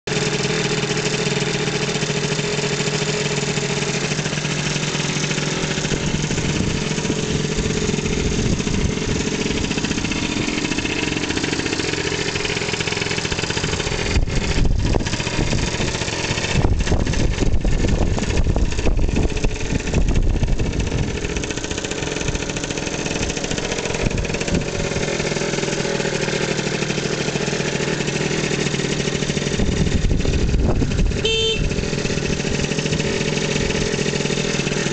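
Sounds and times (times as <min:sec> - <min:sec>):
scooter engine idling: 0:00.1 - 0:34.9.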